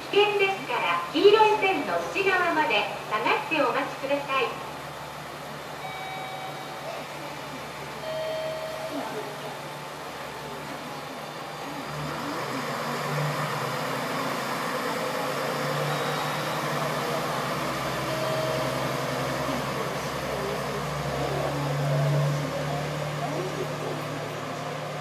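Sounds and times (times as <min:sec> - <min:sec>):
diesel railcar engine hum: 0:00.0 - 0:25.0.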